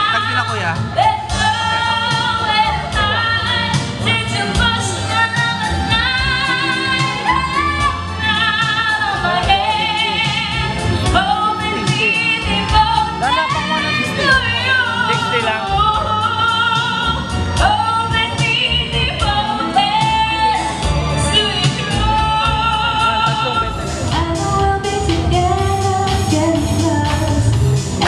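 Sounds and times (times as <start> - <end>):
backing music with steady beat: 0.0 - 28.0
person singing with vibrato: 0.0 - 28.0.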